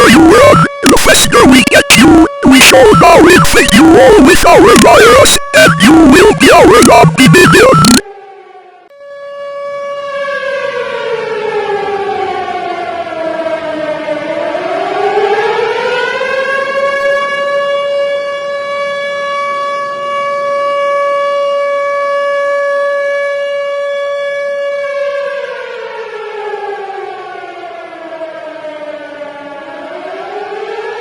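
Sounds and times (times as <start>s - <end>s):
civil defense siren wailing: 0.0s - 6.8s, 7.7s - 31.0s.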